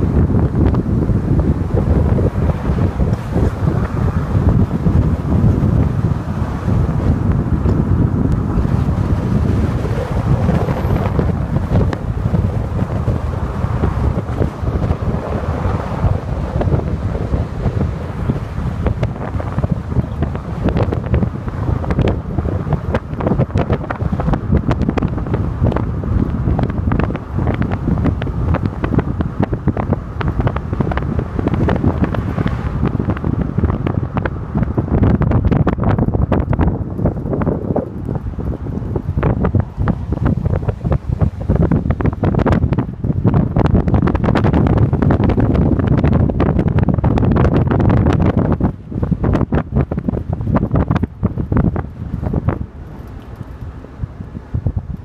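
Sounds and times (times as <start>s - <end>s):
road noise rumble: 0.0s - 55.0s
wind buffeting microphone: 0.0s - 55.0s.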